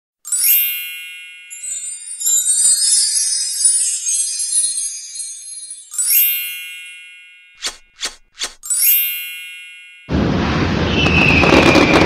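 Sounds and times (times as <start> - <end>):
bright high-pitched chime: 0.2 - 10.2
high tinkling sparkle sounds: 0.2 - 10.2.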